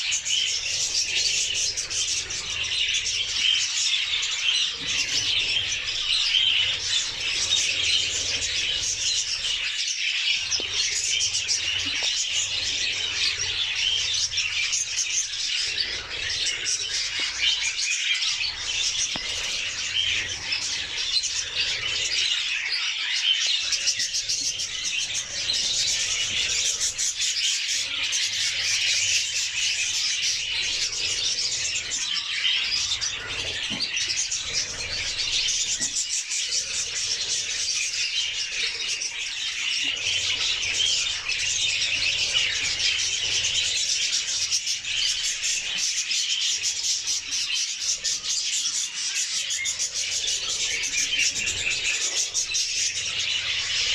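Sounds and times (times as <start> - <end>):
budgerigars chattering: 0.0 - 53.9.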